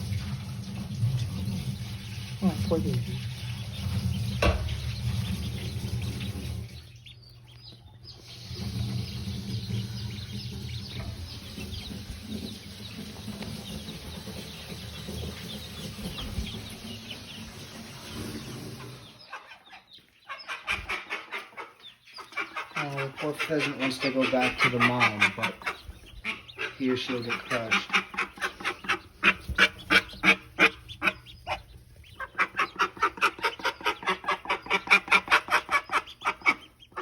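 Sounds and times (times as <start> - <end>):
chicks peeping: 0.0 - 37.0
hen clucking: 0.0 - 37.0.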